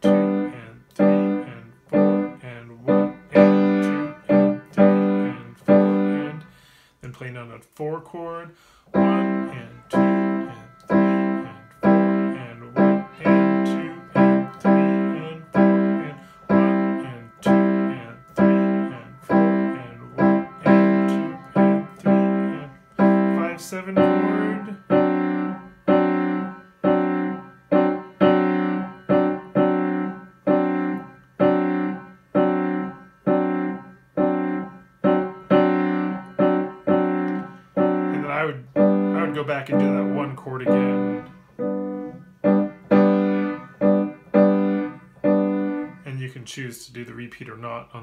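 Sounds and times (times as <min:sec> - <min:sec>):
piano playing block chords: 0:00.0 - 0:06.8, 0:08.9 - 0:46.1.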